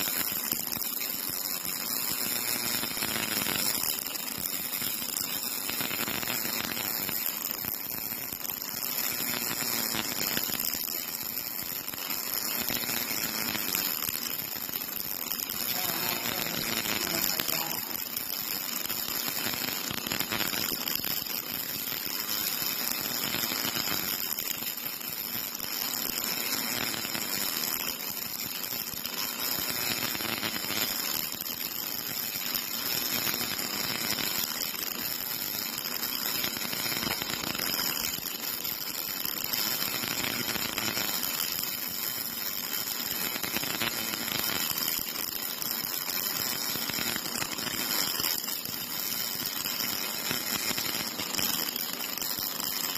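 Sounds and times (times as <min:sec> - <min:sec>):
welding arc crackling: 0:00.0 - 0:52.9.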